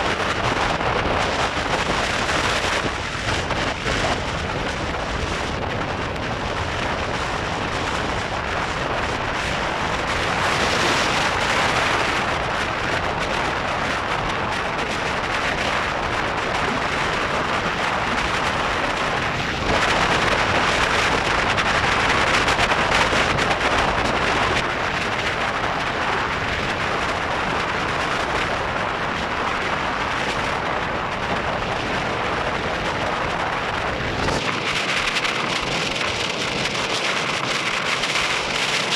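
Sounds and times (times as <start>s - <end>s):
car road noise at highway speed: 0.0s - 38.9s
wind rush: 0.0s - 38.9s.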